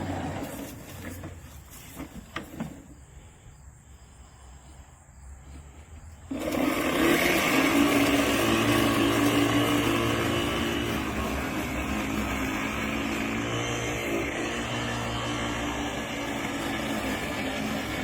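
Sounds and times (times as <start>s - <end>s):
electric lawn mower running: 0.0s - 2.9s, 6.2s - 18.0s.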